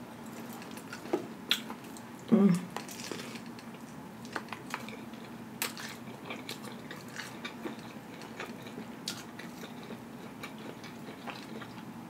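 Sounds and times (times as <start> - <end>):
person chewing food: 0.2 - 11.9.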